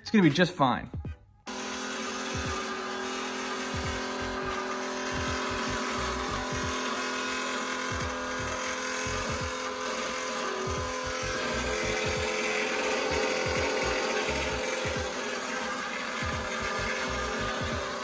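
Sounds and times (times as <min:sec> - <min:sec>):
electric pump humming: 0:01.0 - 0:18.0.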